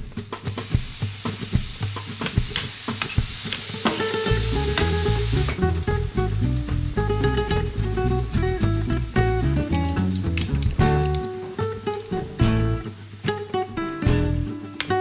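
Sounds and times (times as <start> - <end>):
food sizzling in a frying pan: 0.0 - 15.0
guitar music: 0.5 - 15.0.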